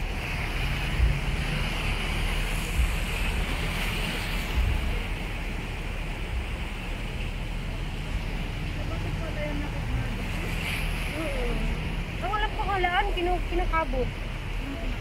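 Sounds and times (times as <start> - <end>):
waves splashing over rocks: 0.0 - 15.0.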